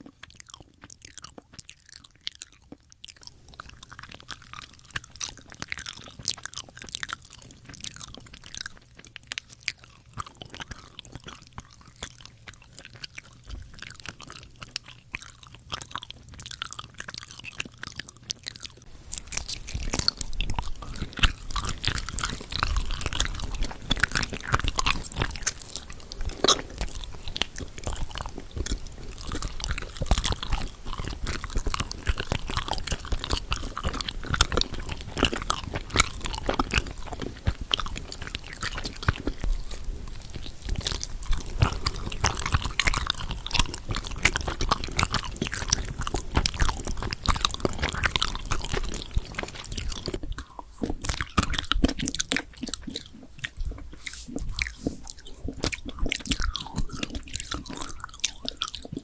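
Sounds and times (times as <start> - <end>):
crunchy bites and chewing: 0.0 - 59.0.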